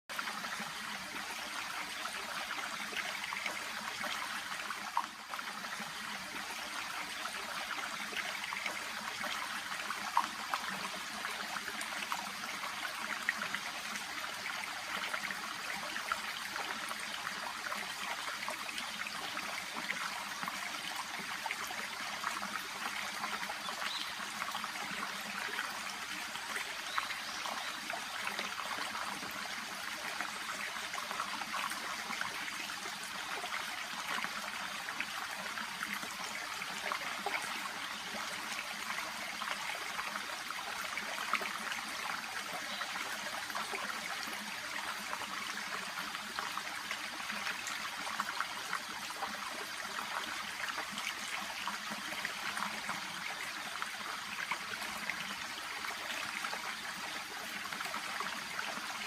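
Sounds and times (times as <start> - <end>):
brook babbling over stones: 0.1 - 59.0.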